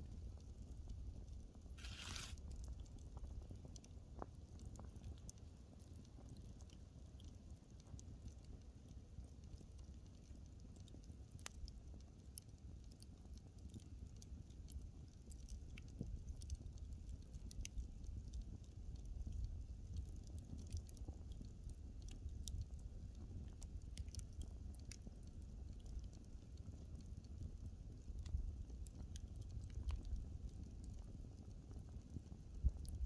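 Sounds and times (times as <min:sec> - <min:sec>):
wood fire crackling: 0:00.1 - 0:33.0.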